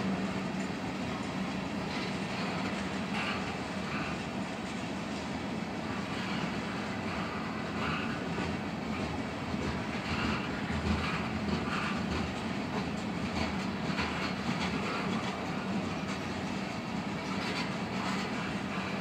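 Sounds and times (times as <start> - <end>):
wheels clattering over rail joints: 0.0 - 4.9, 5.8 - 19.0
train wheels rumbling on rail: 0.0 - 19.0.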